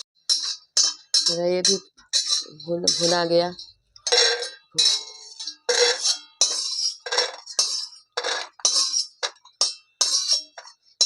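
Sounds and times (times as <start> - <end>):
metal spoon scraping a pan: 0.0 - 11.0.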